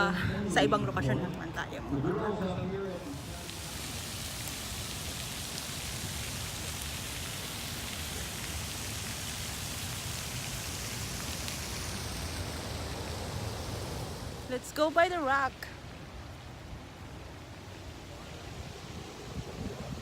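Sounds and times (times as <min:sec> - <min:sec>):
stream water rushing: 0:03.0 - 0:20.0.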